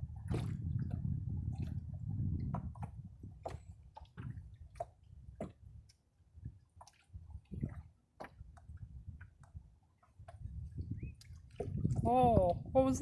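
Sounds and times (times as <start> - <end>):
water dripping and lapping: 0.0 - 13.0.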